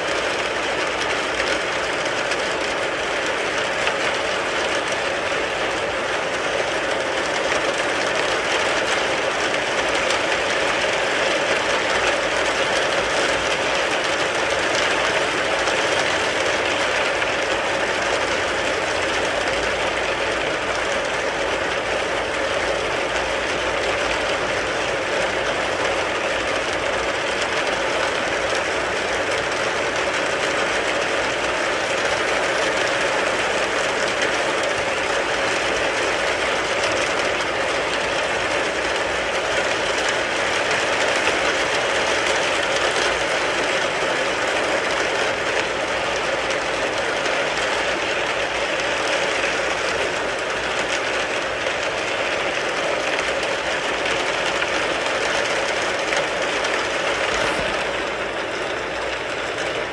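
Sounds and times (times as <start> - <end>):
rain on a car from inside: 0.0 - 57.4.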